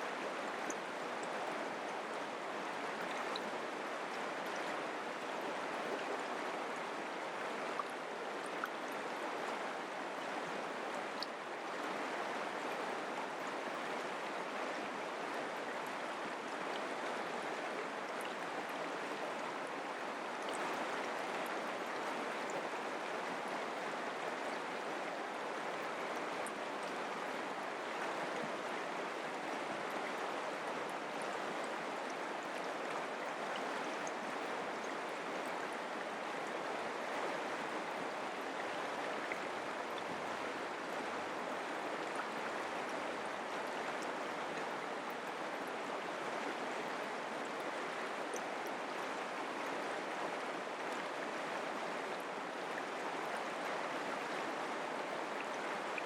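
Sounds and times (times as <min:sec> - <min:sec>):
creek flowing over rocks: 0:00.0 - 0:56.0.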